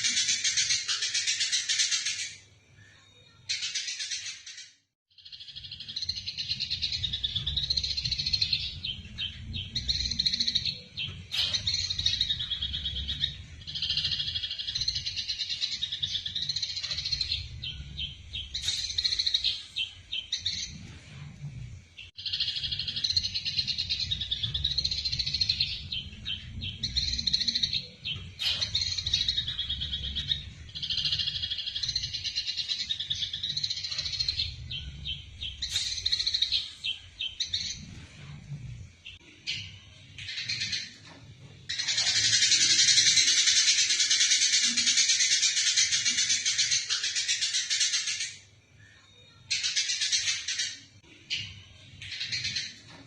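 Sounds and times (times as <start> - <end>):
sparrows chattering and fighting: 0.0 - 53.0.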